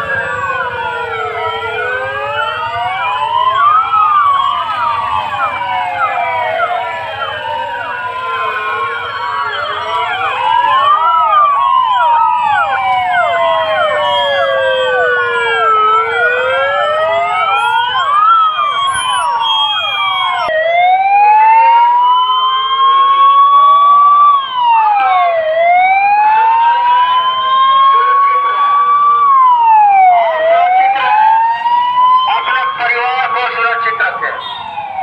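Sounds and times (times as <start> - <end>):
police sirens wailing: 0.0 - 35.0.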